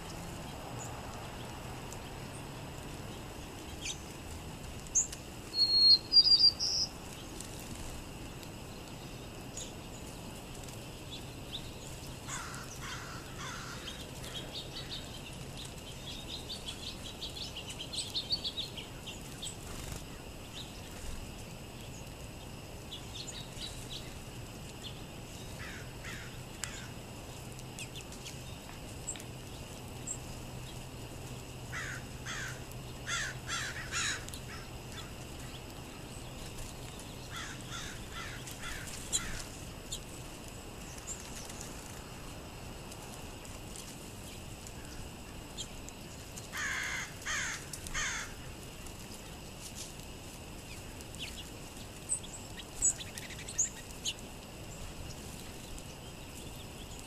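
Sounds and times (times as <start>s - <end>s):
sparrows chirping: 0.0s - 42.0s, 43.2s - 48.6s, 49.2s - 57.0s.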